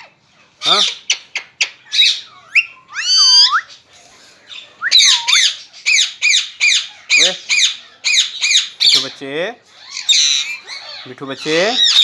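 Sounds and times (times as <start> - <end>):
parrot squawking: 0.0 - 3.8, 4.5 - 9.2, 9.8 - 12.0.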